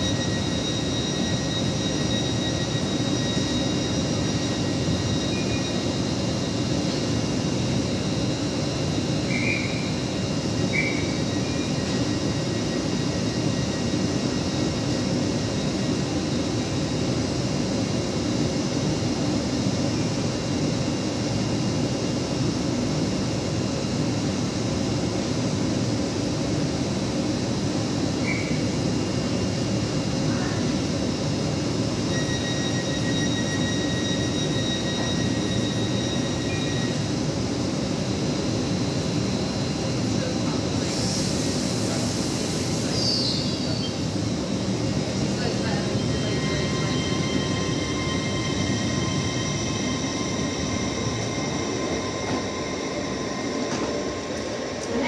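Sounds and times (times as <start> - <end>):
high-pitched whine: 0.0 - 55.0
train rumbling hum: 0.0 - 55.0.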